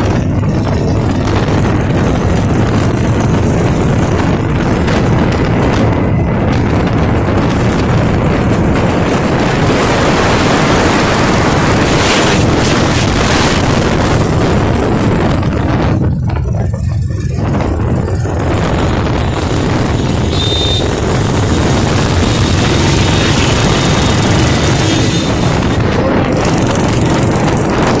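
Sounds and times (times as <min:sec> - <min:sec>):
single-cylinder motorcycle engine: 0:00.0 - 0:28.0
wind rushing over microphone: 0:00.0 - 0:28.0.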